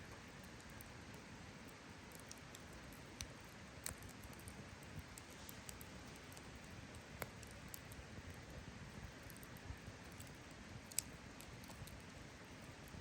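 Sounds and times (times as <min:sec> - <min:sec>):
campfire hissing: 0:00.0 - 0:13.0
wood crackling and popping: 0:00.0 - 0:13.0.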